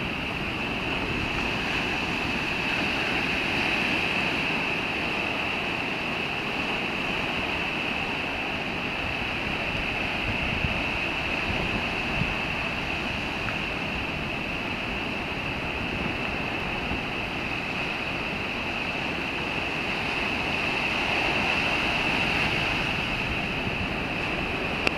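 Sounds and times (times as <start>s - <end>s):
rough surf breaking: 0.0s - 24.9s
wind: 0.0s - 24.9s.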